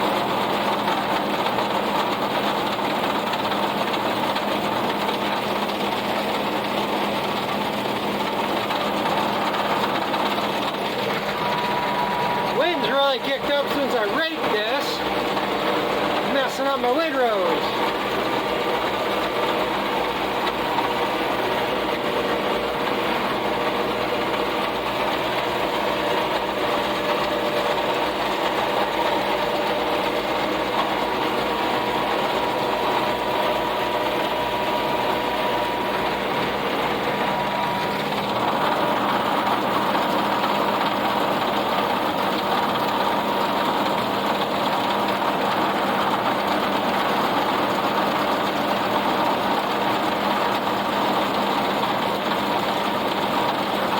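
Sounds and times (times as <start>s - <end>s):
baler mechanical clatter: 0.0s - 53.9s
tractor engine running: 0.0s - 53.9s.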